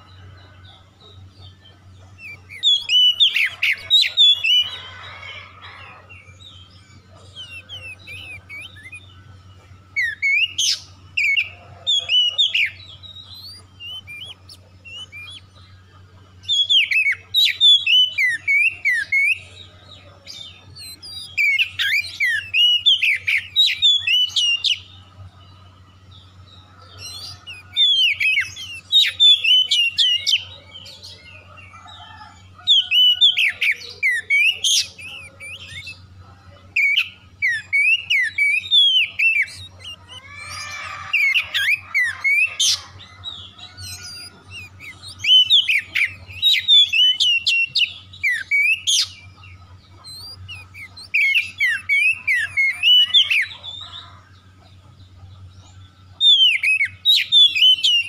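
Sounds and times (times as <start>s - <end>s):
bird whistles and trills: 0.0s - 25.6s, 26.3s - 58.0s.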